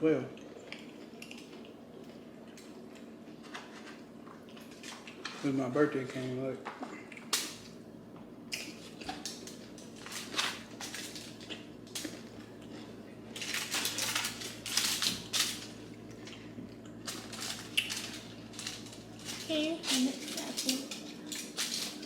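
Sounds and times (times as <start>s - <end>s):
crunching and chewing food: 0.3s - 22.0s.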